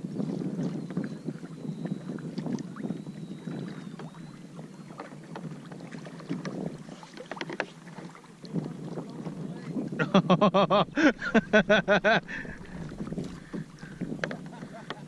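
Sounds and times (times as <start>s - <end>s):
water splashing against kayak: 0.0s - 15.0s.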